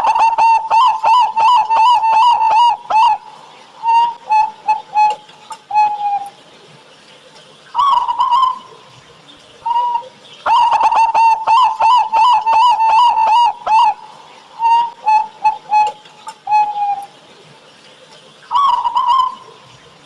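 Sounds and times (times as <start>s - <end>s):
doves cooing: 0.0s - 20.0s.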